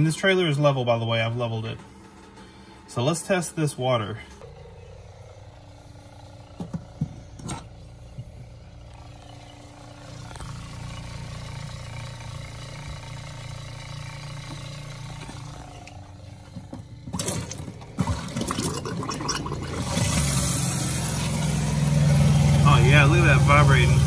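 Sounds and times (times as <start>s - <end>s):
water pump humming: 0.0s - 24.0s.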